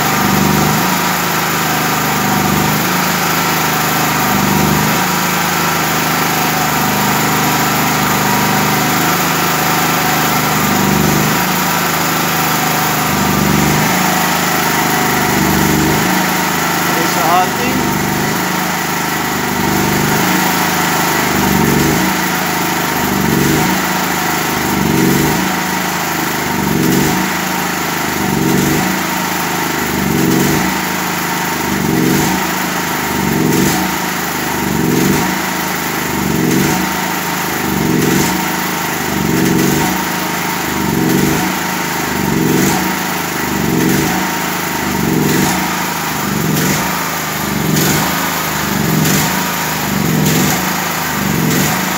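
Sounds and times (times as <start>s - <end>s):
petrol generator surging: 0.0s - 51.9s.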